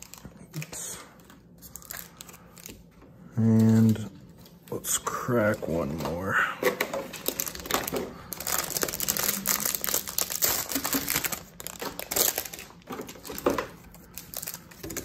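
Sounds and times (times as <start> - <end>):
plastic wrappers crinkling and tearing: 0.0 - 15.0.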